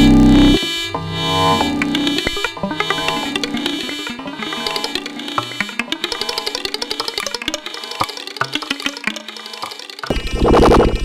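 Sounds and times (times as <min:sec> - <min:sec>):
synthesizer percussive plucks: 0:00.0 - 0:10.9.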